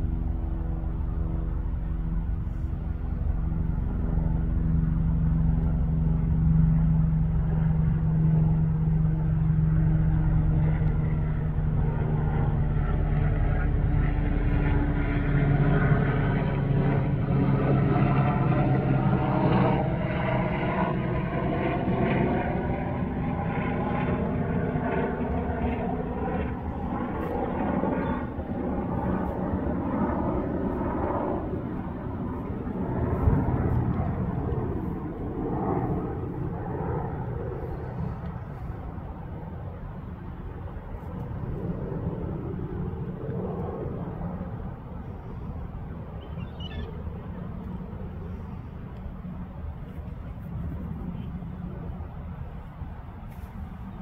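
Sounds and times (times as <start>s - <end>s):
passing engine drone: 0.0s - 54.0s.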